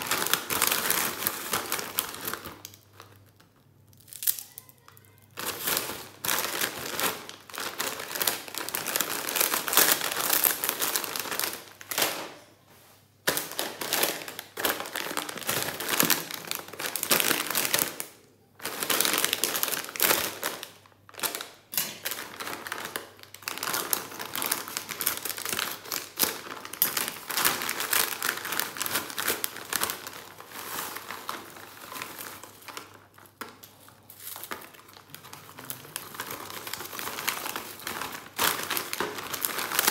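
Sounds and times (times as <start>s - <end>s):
plastic chip bags crinkling: 0.0s - 12.5s, 13.2s - 39.9s.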